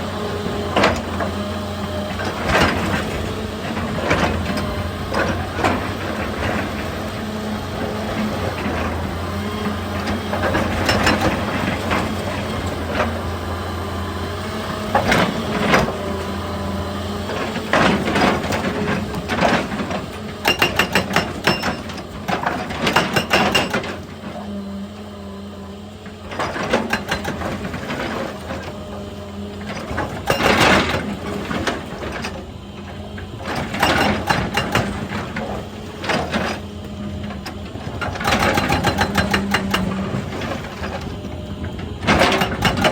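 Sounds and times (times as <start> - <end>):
excavator engine running: 0.0 - 42.9
hydraulic breaker hammering rock: 0.4 - 24.5, 26.2 - 42.9.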